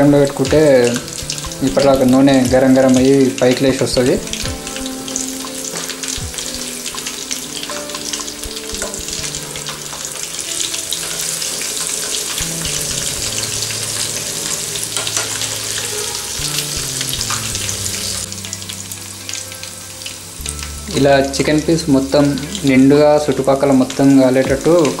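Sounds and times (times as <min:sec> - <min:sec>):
chicken deep-frying in oil: 0:00.0 - 0:25.0.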